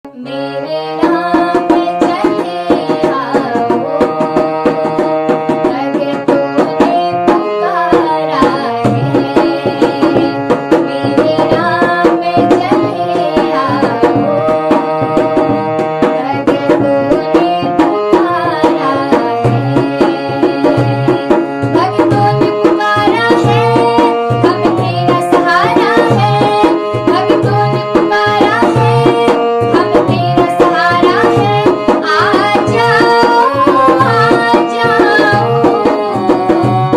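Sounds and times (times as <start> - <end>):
tabla rhythm: 0.1 - 36.9.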